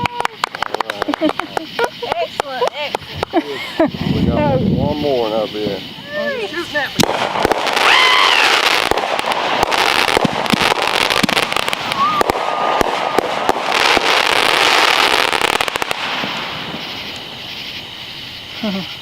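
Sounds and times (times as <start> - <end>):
fireworks hissing bursts: 0.0 - 19.0
fireworks popping and crackling: 0.0 - 19.0.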